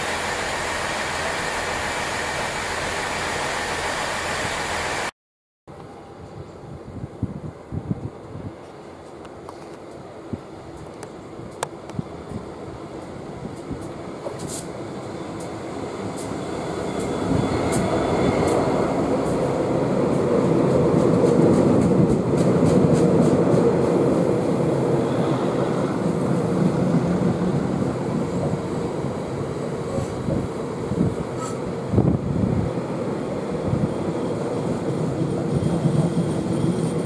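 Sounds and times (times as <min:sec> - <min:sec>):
freight train wheels roaring: 0:00.0 - 0:05.1, 0:05.8 - 0:37.0.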